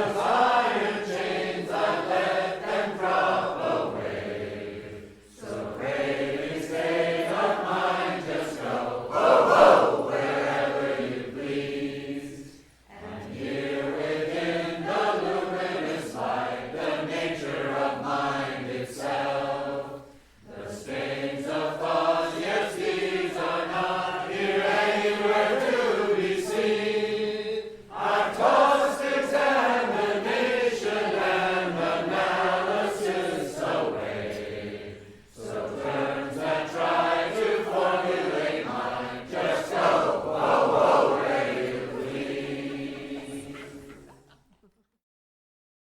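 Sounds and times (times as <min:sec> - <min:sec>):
voices singing a slow chant: 0:00.0 - 0:44.5.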